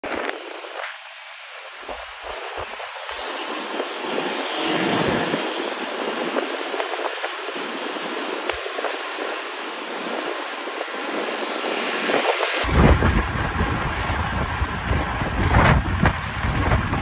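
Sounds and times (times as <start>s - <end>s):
street traffic with scooters: 0.0s - 17.0s
wind buffeting microphone: 0.0s - 17.0s.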